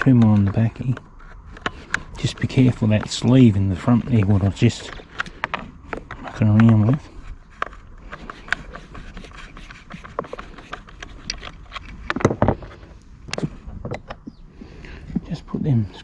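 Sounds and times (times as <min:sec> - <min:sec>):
screwdriver clicking and scraping: 0:00.0 - 0:14.3
screws and plastic parts handled: 0:00.0 - 0:14.3.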